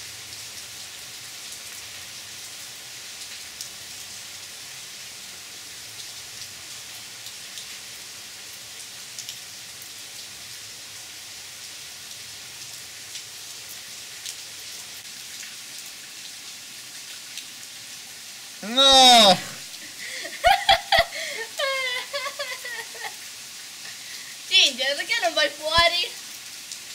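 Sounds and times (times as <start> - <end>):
rain falling on water: 0.0 - 26.9.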